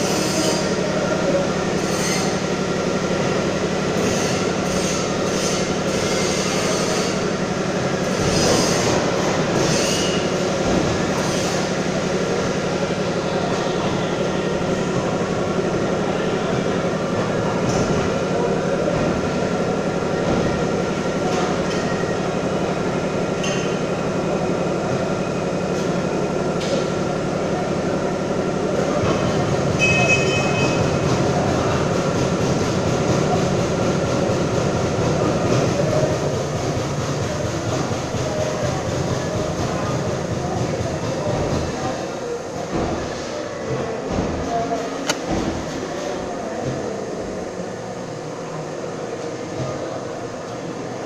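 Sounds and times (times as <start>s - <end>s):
punch press mechanical hum: 0.0s - 51.0s.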